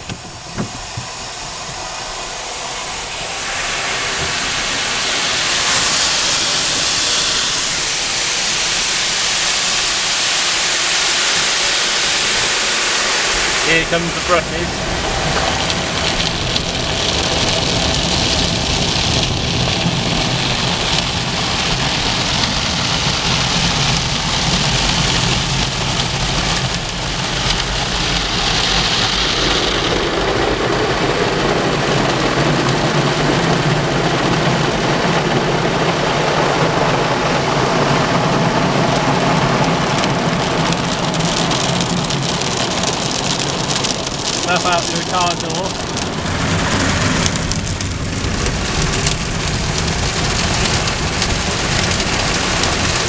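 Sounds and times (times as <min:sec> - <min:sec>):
low machine hum: 0:00.0 - 0:53.0
rotating brushes scrubbing car: 0:00.0 - 0:53.0
water spraying hiss: 0:00.0 - 0:53.0.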